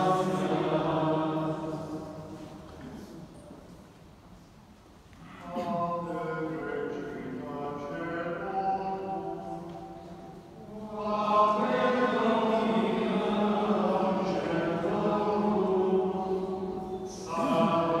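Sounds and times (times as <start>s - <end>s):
voices singing a liturgical chant: 0.0s - 3.0s, 5.5s - 18.0s.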